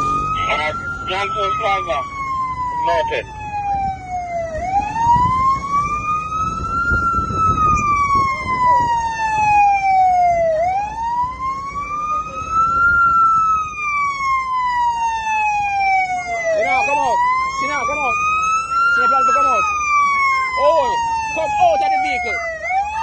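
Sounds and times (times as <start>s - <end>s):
engine and street rumble: 0.0s - 23.0s
police siren wailing: 0.0s - 23.0s.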